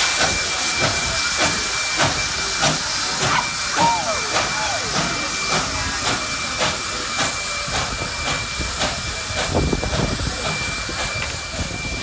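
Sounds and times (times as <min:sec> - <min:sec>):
steam hissing: 0:00.0 - 0:12.0
steam locomotive exhaust chuffs: 0:00.0 - 0:12.0.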